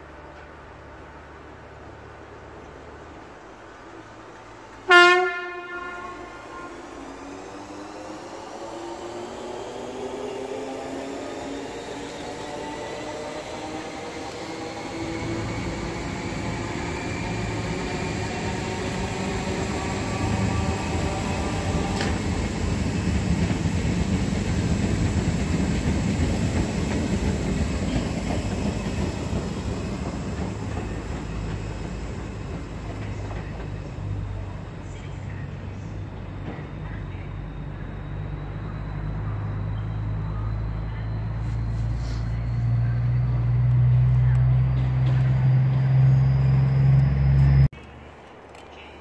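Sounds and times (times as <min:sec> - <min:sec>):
train wheel rumble: 0:00.0 - 0:48.9
traction motors whining: 0:06.3 - 0:47.7.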